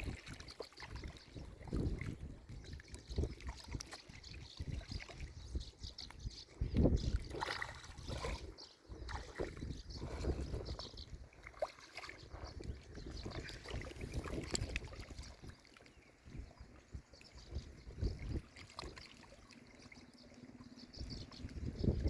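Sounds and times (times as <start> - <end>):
wind rumble on microphone: 0.0 - 11.4, 12.1 - 19.0, 20.8 - 22.0
water lapping against bank: 0.0 - 22.0.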